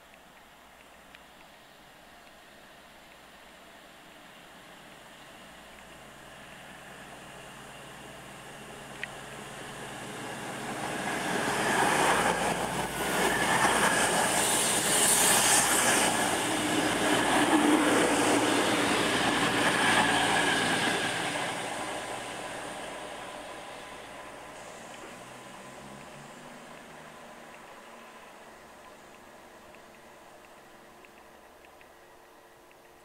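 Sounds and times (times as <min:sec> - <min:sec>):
diesel train passing: 0:03.6 - 0:33.0.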